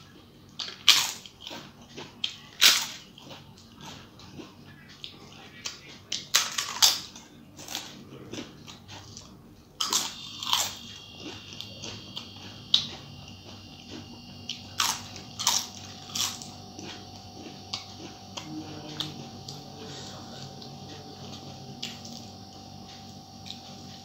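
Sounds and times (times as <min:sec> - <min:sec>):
crunchy food being chewed: 0:00.0 - 0:24.0.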